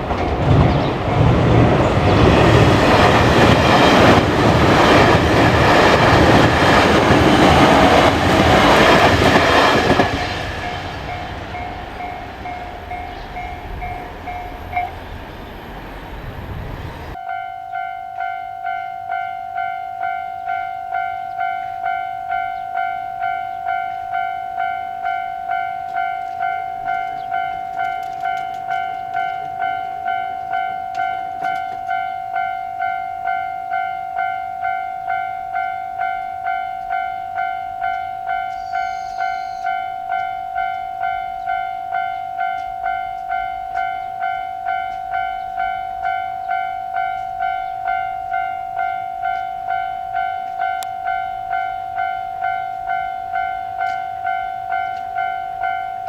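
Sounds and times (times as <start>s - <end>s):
faint train passing: 0.0s - 56.0s
electronic crossing bell ringing: 2.2s - 15.9s, 16.9s - 56.0s.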